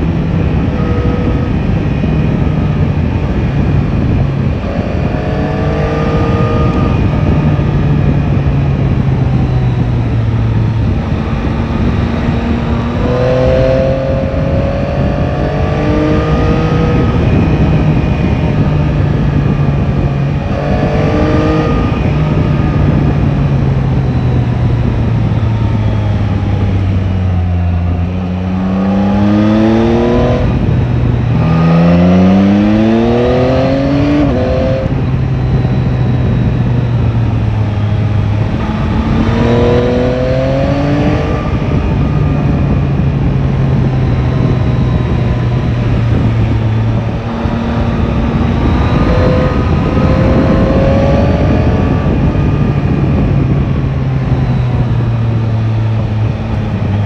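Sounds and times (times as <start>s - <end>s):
motorcycle engine accelerating: 0.0s - 57.0s
wind rushing: 0.0s - 57.0s.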